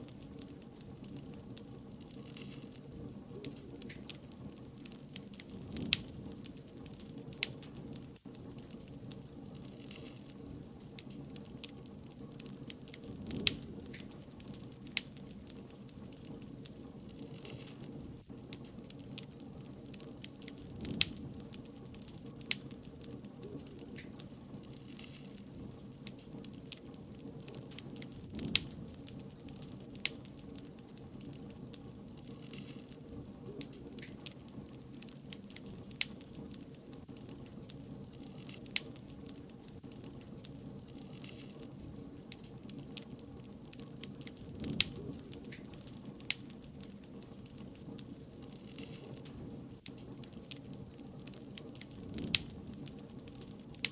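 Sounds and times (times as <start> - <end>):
bonfire pops and snaps: 0.0 - 53.9
low rush of burning fire: 0.0 - 53.9.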